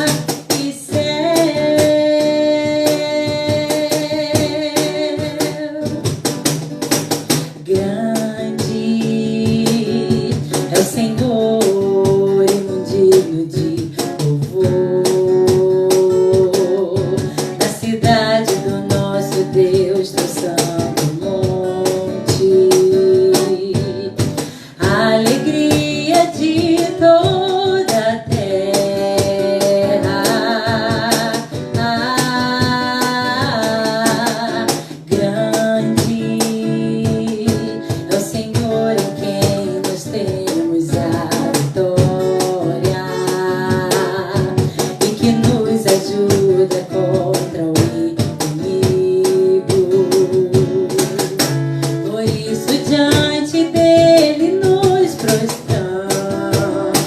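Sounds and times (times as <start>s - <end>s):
light percussion: 0.0s - 57.0s
strummed guitar: 0.0s - 57.0s.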